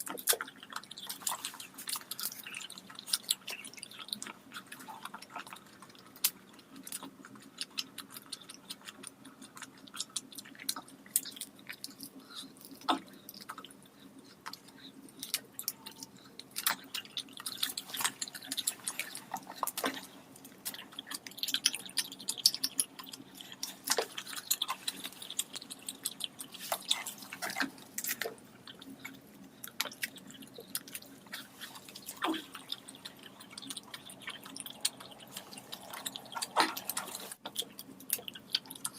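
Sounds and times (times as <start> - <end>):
lip smacks: 0.0 - 38.9
mouth clicks: 0.0 - 38.9
wet chewing: 0.0 - 38.9.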